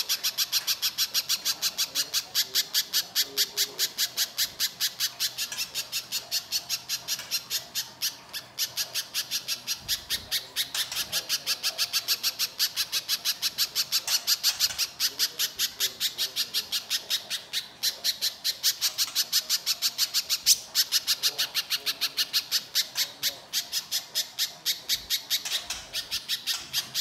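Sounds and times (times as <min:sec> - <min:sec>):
bird harsh rasping notes: 0:00.0 - 0:27.0.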